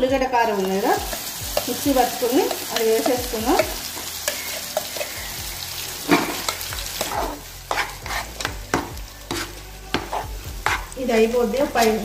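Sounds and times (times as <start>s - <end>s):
paste sizzling in hot oil: 0.3s - 12.0s
spatula scraping a pan: 1.0s - 11.0s.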